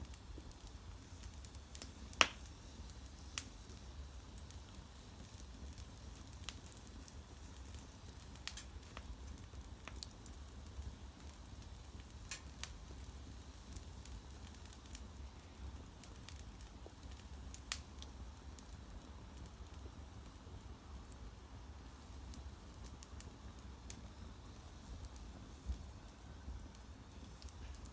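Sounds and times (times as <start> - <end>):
bonfire crackling: 0.0 - 27.9.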